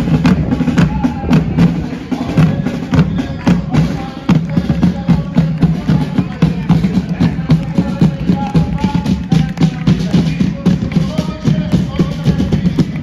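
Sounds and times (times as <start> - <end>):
marching side drums: 0.0 - 13.0.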